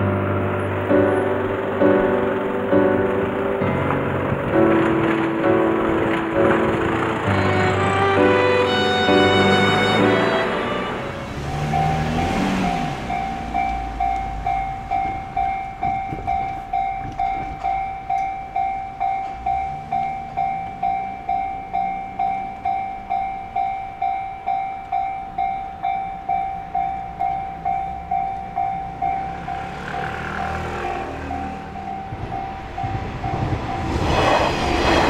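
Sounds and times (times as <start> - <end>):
approaching train rushing: 0.0 - 35.0
level crossing warning bell: 3.3 - 34.1.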